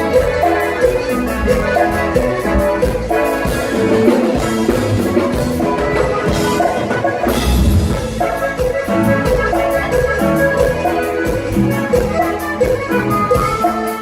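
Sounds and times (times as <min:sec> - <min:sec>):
band music with bass and drums: 0:00.0 - 0:14.0.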